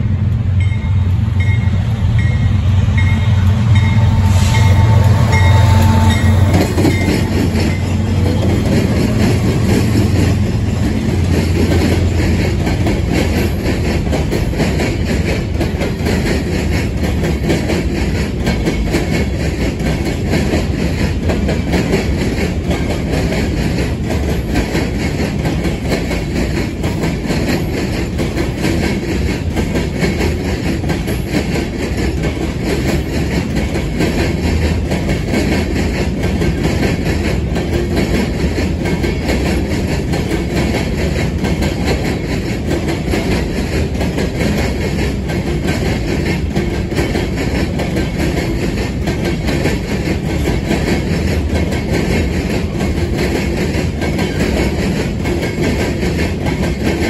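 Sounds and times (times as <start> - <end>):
diesel locomotive engine drone: 0.0 - 57.0
train wheels banging on rails: 0.0 - 57.0.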